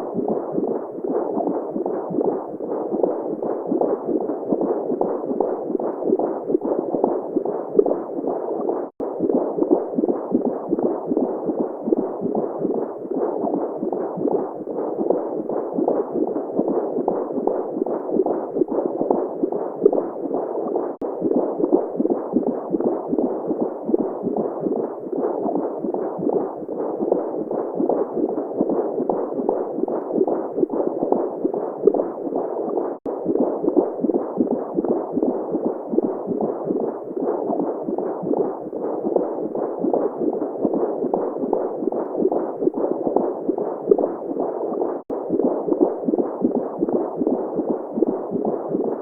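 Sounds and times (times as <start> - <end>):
heartbeat-like throb: 0.0 - 49.0.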